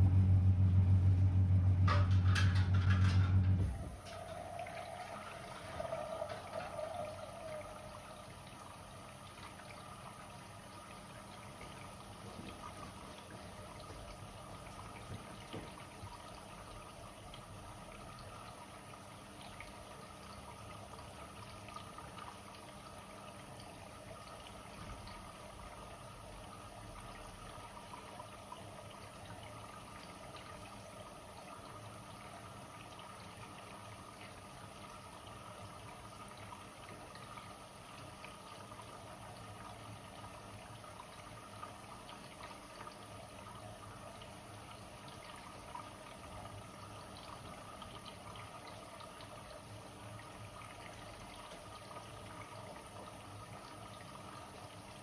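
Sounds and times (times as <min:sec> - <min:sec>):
washing machine running: 0:00.0 - 0:55.0
water moving in machine: 0:00.1 - 0:55.0.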